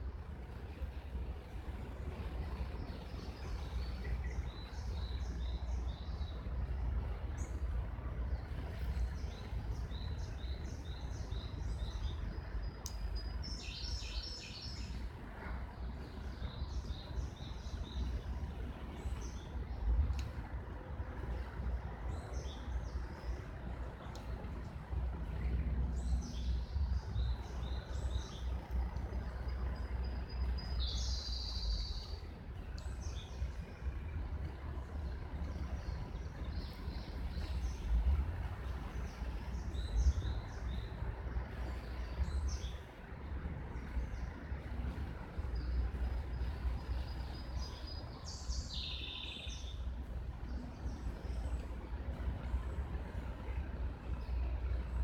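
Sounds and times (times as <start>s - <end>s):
steady low rumble: 0.0s - 55.0s
birds chirping: 2.2s - 20.3s, 25.2s - 55.0s.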